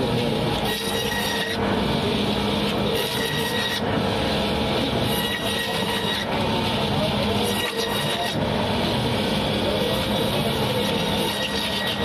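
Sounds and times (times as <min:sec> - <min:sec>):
band saw cutting fish: 0:00.0 - 0:12.0.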